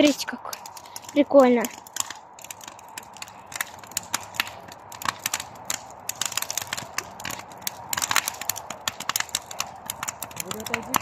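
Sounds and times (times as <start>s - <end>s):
faint hiss of flames: 0.0s - 11.0s
wood fire popping and snapping: 0.0s - 11.0s.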